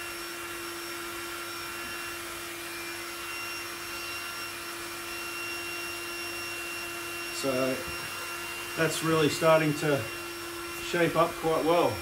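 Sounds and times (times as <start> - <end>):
battery air pump running: 0.0 - 12.0.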